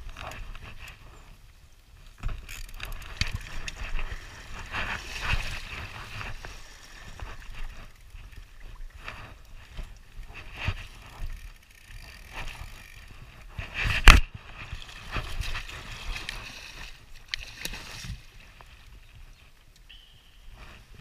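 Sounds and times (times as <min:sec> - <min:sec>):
water splashing and churning: 0:00.0 - 0:19.0.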